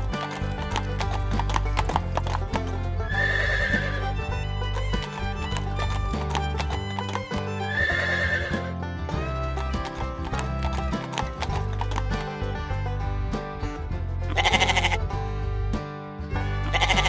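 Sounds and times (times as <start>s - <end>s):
hooves clip-clopping: 0.0s - 15.4s, 16.3s - 17.0s
background music: 0.0s - 17.0s.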